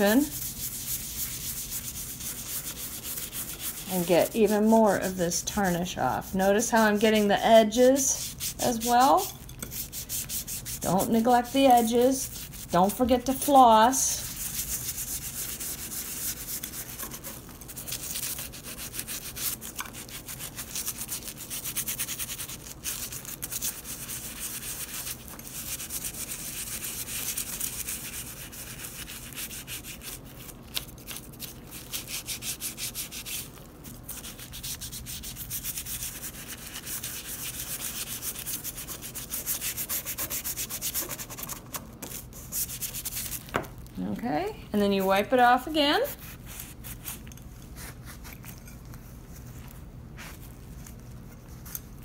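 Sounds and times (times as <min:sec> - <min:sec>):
toothbrush scrubbing metal: 0:00.0 - 0:43.4.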